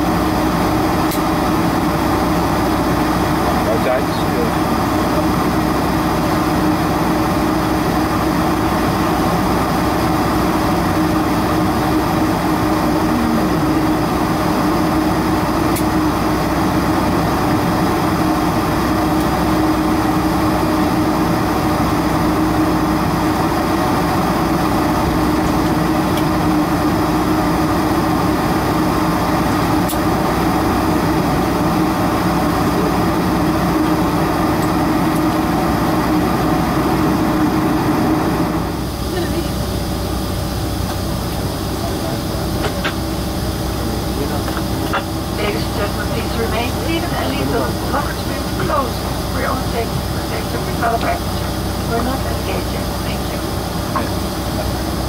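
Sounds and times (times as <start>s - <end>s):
air conditioning: 0.0s - 55.0s
aircraft engine idling: 0.0s - 55.0s
steady mid-pitched hum: 0.0s - 55.0s.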